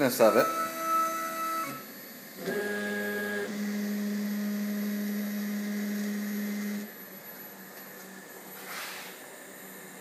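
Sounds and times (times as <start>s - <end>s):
machine motors humming: 0.0s - 10.0s.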